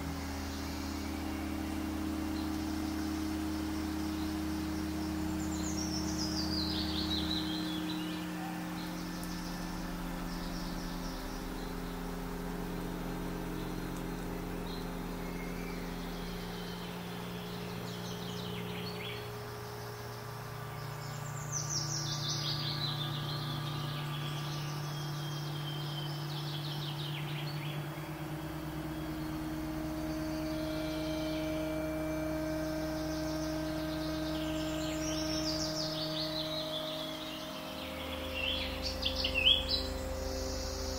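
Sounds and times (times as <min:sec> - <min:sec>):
ambient drone of held chords: 0:00.0 - 0:40.9
birdsong trills and chirps: 0:00.0 - 0:40.9.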